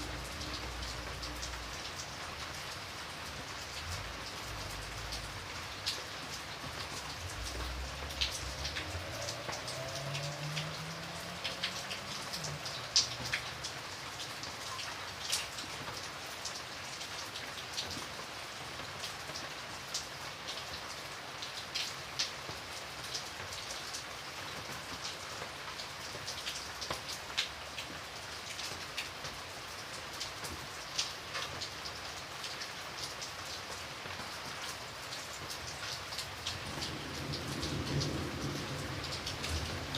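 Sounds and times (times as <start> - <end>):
light drizzle: 0.0 - 39.9
raindrops tapping near microphone: 0.0 - 39.9.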